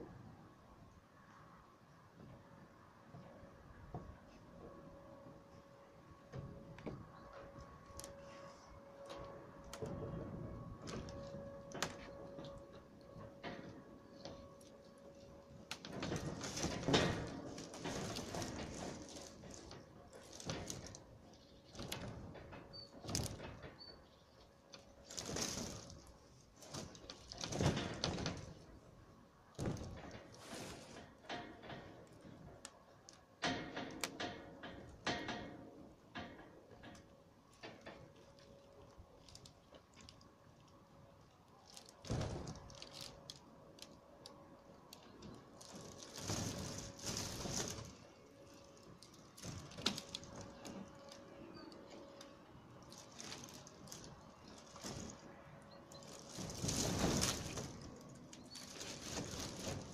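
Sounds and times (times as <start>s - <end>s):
plastic roofing sheets crackling: 4.0s - 59.9s.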